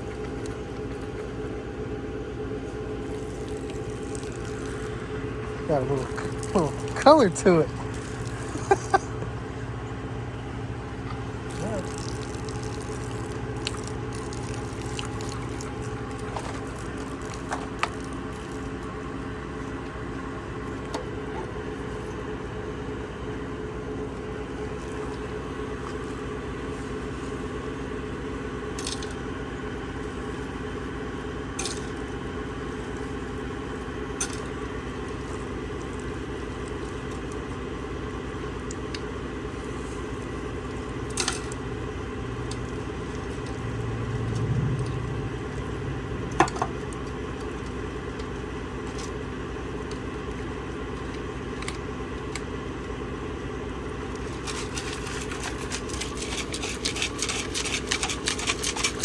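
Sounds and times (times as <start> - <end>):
engine droning steadily: 0.0 - 59.0.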